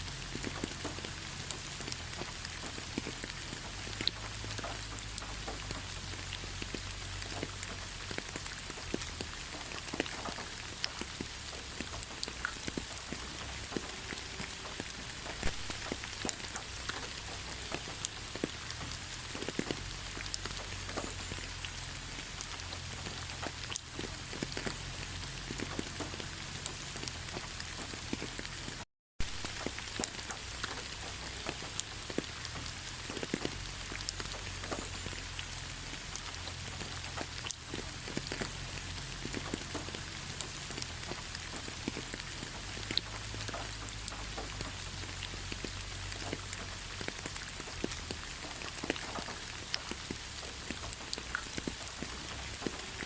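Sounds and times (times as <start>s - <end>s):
gentle rain: 0.0s - 53.0s
raindrops pattering on hard surface: 0.0s - 53.0s.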